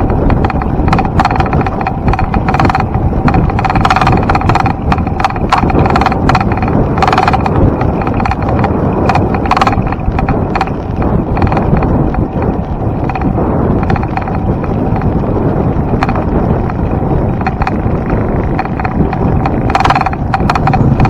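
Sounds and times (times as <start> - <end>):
bicycle tyre noise: 0.0 - 21.0
bike clicks and rattles: 0.0 - 21.0
wind on microphone: 0.0 - 21.0.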